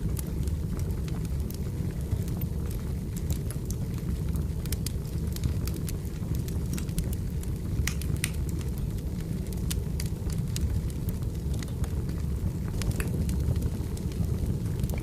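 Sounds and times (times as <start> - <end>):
flame rumbling: 0.0 - 15.0
wood crackling and popping: 0.0 - 15.0.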